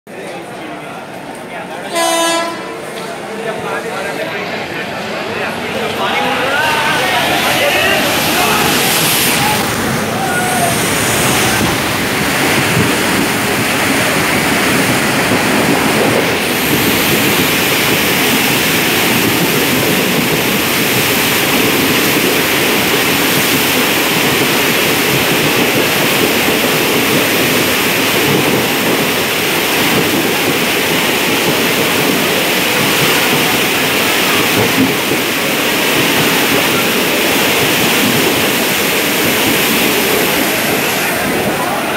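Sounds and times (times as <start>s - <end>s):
train running through floodwater: 0.1s - 41.9s
rush of churning water: 5.0s - 41.9s.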